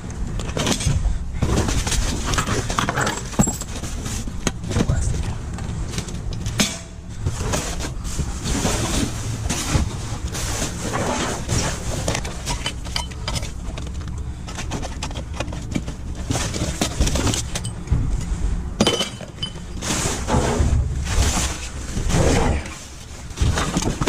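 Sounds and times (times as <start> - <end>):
objects clattering in a dumpster: 0.0 - 24.0.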